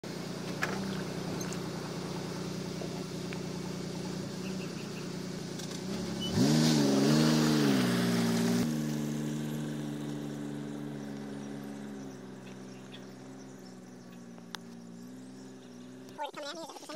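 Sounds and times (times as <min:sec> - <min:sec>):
truck engine running and revving: 0:00.0 - 0:16.9.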